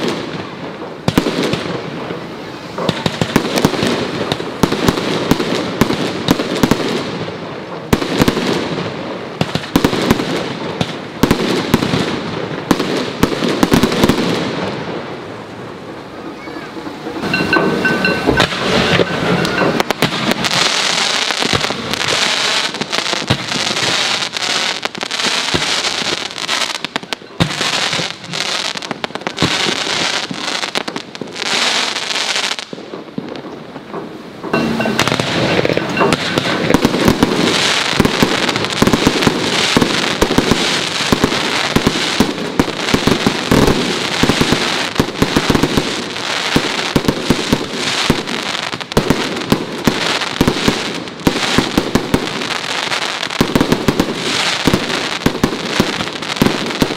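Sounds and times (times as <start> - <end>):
fireworks crackling and popping: 0.0 - 56.9.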